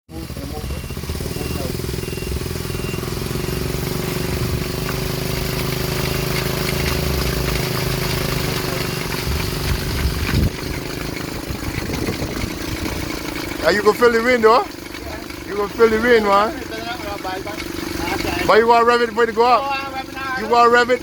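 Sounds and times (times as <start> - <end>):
small helicopter engine running: 0.1 - 21.0.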